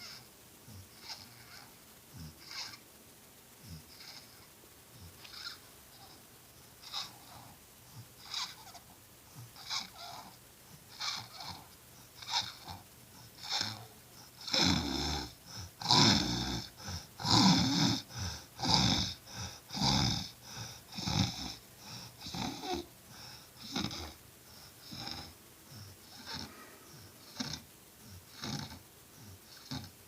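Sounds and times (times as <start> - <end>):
rasping snoring: 0.0 - 2.8, 3.6 - 30.0.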